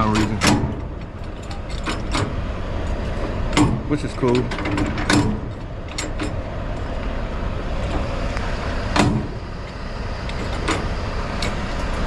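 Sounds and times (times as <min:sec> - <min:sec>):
diesel truck idling: 0:00.0 - 0:12.0
sharp metallic clanks: 0:00.0 - 0:12.0.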